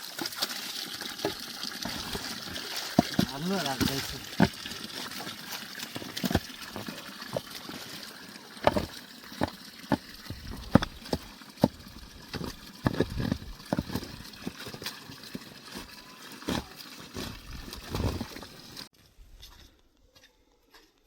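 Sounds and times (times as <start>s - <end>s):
water splashing and trickling: 0.0s - 18.9s.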